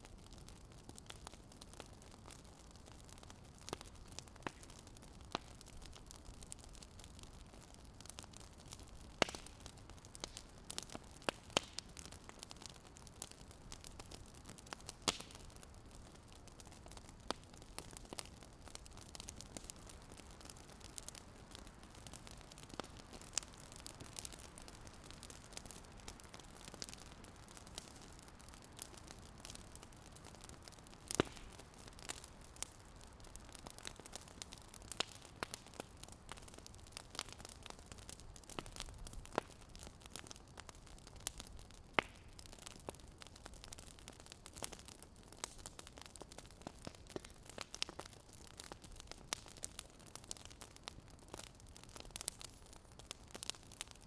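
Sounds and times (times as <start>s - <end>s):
fire popping and snapping: 0.0s - 54.0s.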